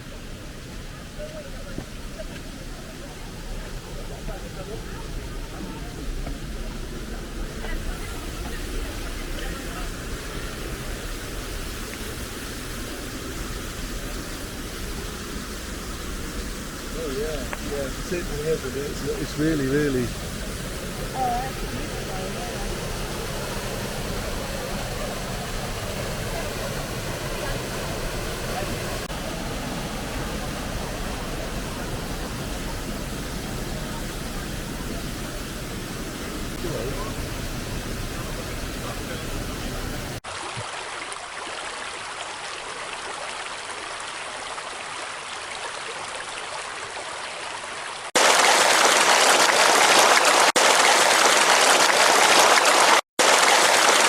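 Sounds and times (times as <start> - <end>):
waterfall rushing: 0.0 - 44.6, 48.0 - 54.0.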